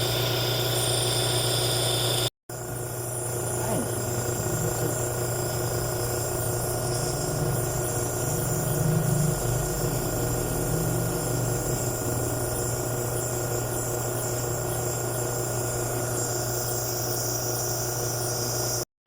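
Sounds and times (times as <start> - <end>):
machine hum: 0.0 - 18.1.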